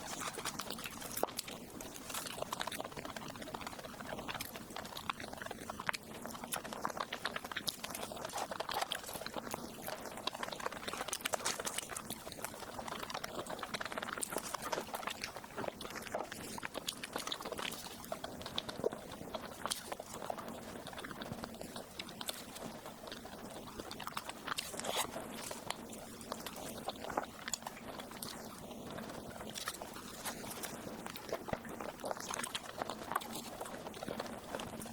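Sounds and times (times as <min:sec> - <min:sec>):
chewing and wet mouth sounds: 0:00.0 - 0:34.9.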